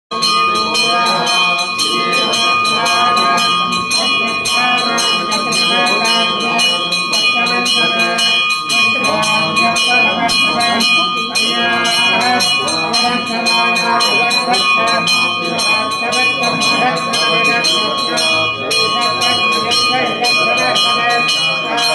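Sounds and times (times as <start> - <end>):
temple bell ringing rapidly: 0.1 - 21.9
voices chanting: 0.1 - 21.9.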